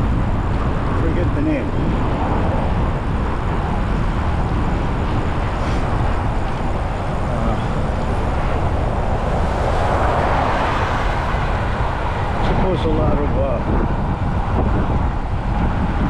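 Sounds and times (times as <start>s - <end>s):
road traffic: 0.0s - 15.5s
bicycle road noise: 0.0s - 16.0s
wind rush on microphone: 0.0s - 16.0s.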